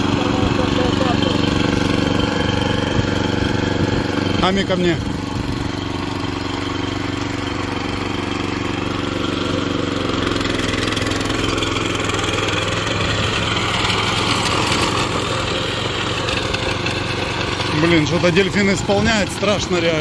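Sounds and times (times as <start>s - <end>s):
lawn mower engine running: 0.0s - 20.0s
rough whirring noise: 0.0s - 20.0s.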